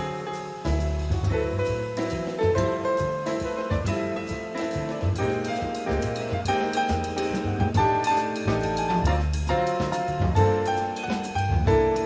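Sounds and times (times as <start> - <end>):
double bass line: 0.0 - 12.0
light drum-kit strokes: 0.0 - 12.0
piano notes: 0.0 - 12.0.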